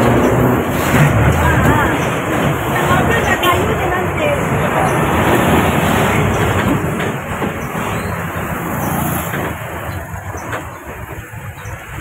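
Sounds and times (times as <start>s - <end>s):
truck diesel engine humming: 0.0s - 12.0s.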